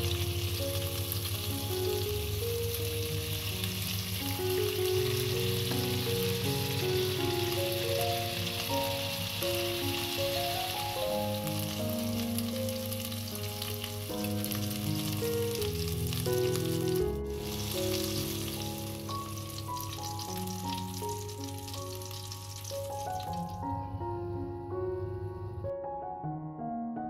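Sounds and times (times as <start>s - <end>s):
meat sizzling in oil: 0.0s - 23.6s
background music: 0.0s - 27.0s.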